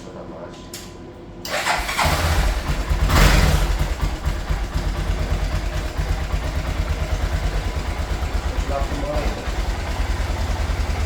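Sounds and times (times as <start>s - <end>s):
motorcycle engine starting and idling: 1.5s - 11.0s.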